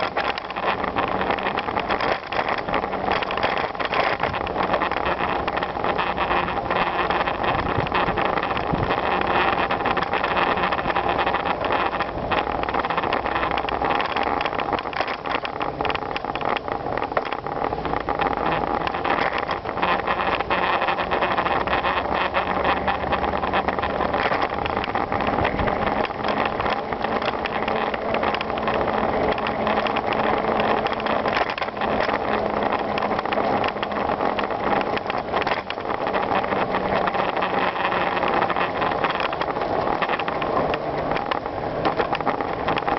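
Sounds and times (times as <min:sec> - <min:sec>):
bicycle tyre noise: 0:00.0 - 0:42.9
bike rattles and clicks: 0:00.0 - 0:42.9
wind on microphone: 0:00.0 - 0:42.9.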